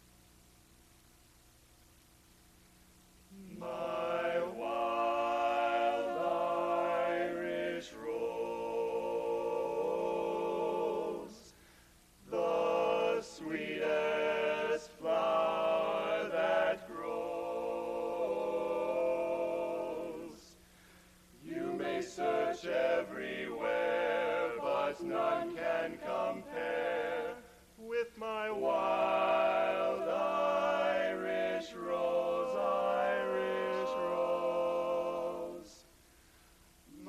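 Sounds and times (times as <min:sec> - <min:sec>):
male quartet singing a cappella: 0:03.3 - 0:20.7, 0:21.4 - 0:35.9.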